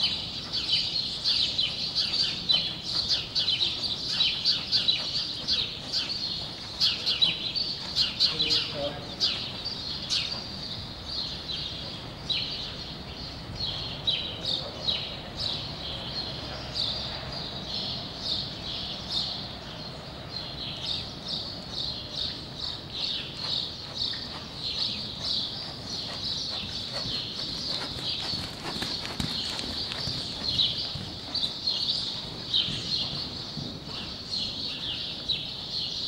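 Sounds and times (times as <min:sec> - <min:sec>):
horse trotting on sand: 0:00.0 - 0:17.8, 0:20.4 - 0:36.0
small birds chirping: 0:00.0 - 0:36.0.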